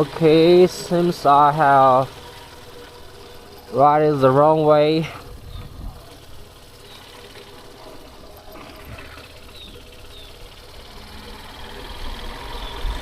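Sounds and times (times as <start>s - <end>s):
road and wind rumble: 0.0s - 13.0s.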